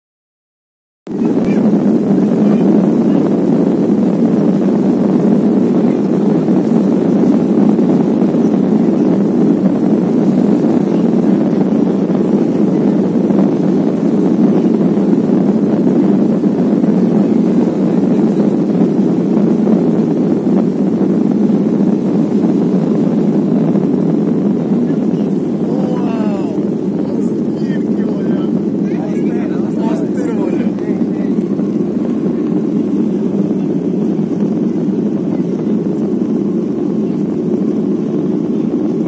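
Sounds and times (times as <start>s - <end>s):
jet airliner cabin rumble: 1.1s - 39.0s.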